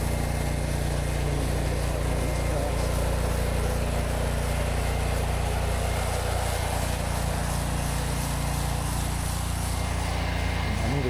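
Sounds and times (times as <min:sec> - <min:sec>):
pressure washer engine running: 0:00.0 - 0:11.0.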